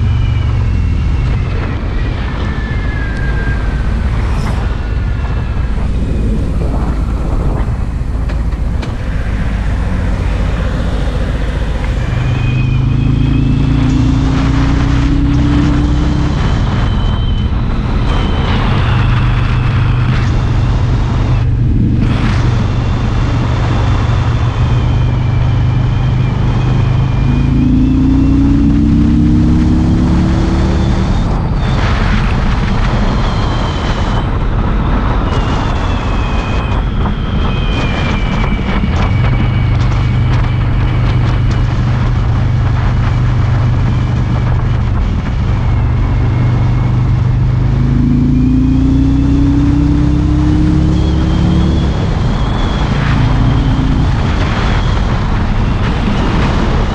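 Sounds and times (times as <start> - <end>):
motorcycle engine accelerating: 0.0 - 56.9
wind rushing past microphone: 0.0 - 56.9.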